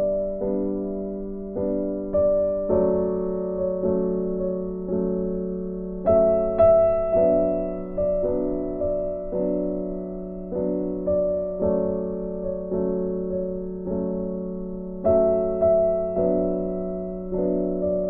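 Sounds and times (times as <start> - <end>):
soft keyboard chords: 0.0 - 18.0.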